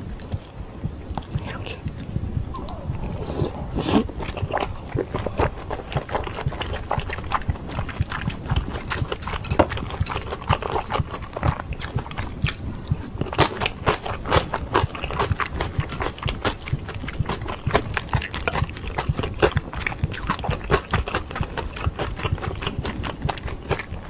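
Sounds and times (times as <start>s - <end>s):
wet chewing: 0.0s - 24.0s.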